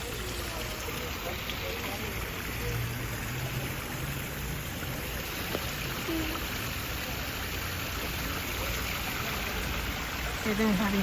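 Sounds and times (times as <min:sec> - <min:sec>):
water feature splashing: 0:00.0 - 0:11.0.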